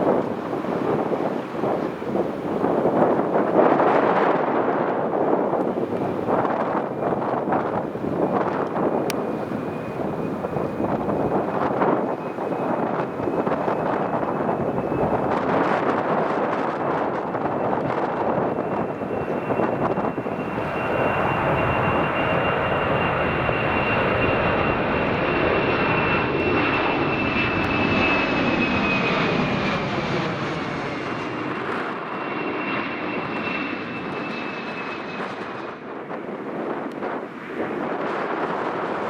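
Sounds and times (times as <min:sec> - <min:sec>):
airliner engine whine overhead: 0:00.0 - 0:39.0.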